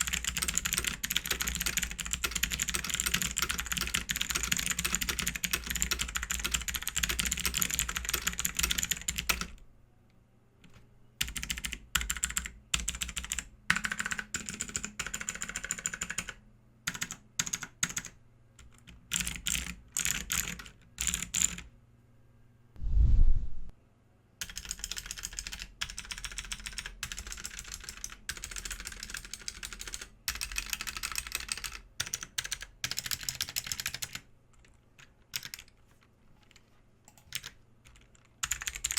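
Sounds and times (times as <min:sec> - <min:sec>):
mechanical keyboard typing: 0:00.0 - 0:09.6, 0:11.2 - 0:21.7, 0:24.4 - 0:38.9.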